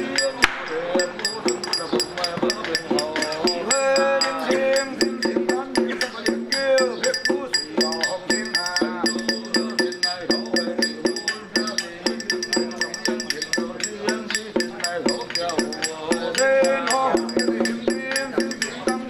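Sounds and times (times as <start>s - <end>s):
clicking percussion beat: 0.0s - 19.0s
man chanting: 0.0s - 19.0s.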